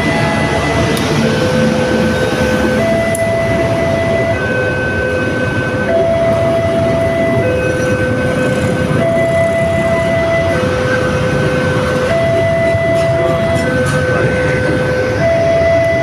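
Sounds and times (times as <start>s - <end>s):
level crossing two-tone alarm: 0.0s - 16.0s
train passing: 0.0s - 16.0s.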